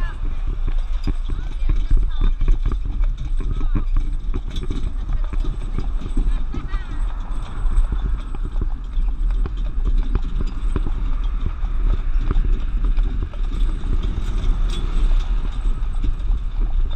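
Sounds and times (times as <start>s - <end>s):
horse hooves clip-clopping on road: 0.0s - 16.9s
wagon rumbling: 0.0s - 16.9s.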